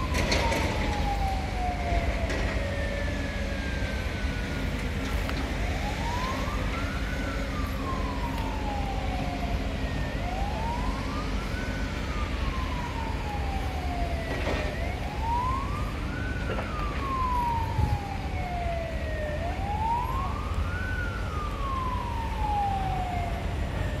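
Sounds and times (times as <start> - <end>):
faint second siren: 0.0 - 24.0
siren wailing: 0.0 - 24.0.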